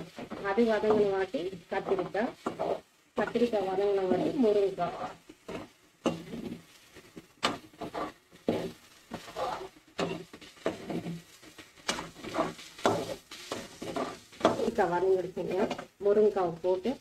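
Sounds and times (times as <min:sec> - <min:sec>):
ladle scraping vegetables in pan: 0:00.0 - 0:15.9.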